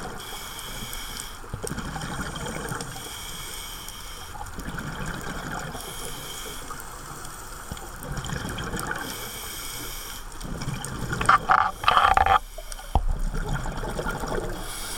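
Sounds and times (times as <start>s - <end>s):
underwater bubbles gurgling: 0.0s - 14.9s.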